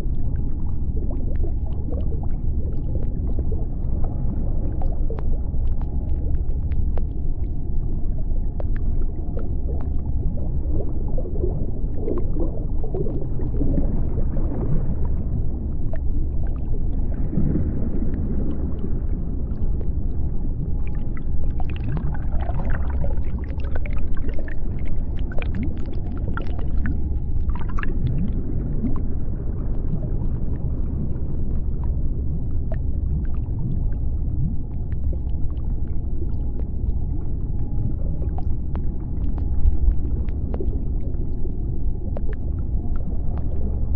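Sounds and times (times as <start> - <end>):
low underwater rumble: 0.0 - 43.9.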